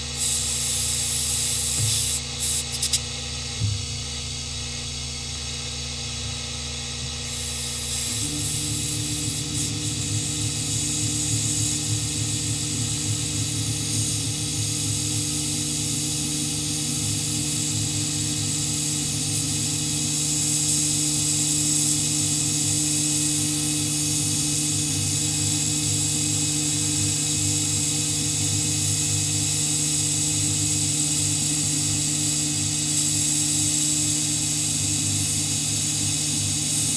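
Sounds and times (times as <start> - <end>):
nozzle hissing: 0.0 - 3.2, 7.2 - 36.9
milling machine motor hum: 0.0 - 36.9
end mill cutting acrylic: 7.2 - 36.9.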